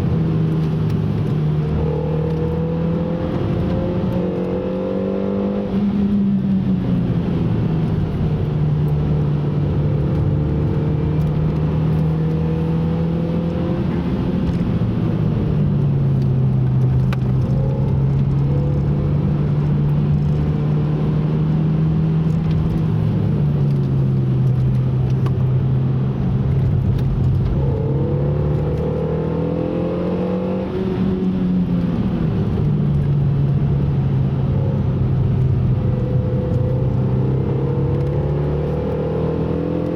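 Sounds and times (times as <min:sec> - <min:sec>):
car engine running: 0:00.0 - 0:29.4, 0:30.0 - 0:39.6.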